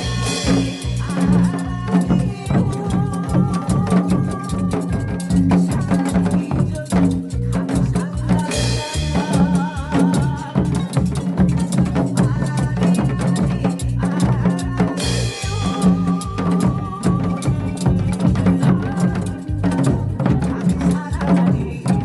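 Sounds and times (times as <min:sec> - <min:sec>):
hourglass drum rapid strokes: 0:00.0 - 0:21.4
backing music with drums and bass: 0:00.0 - 0:22.0.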